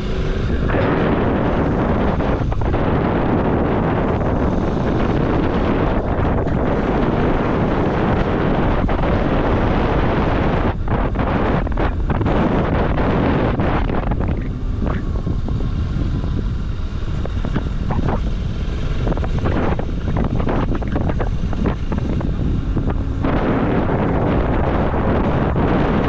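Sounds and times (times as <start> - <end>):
motorcycle engine: 0.0 - 26.0
road noise: 0.0 - 26.0
wind buffeting microphone: 0.0 - 26.0.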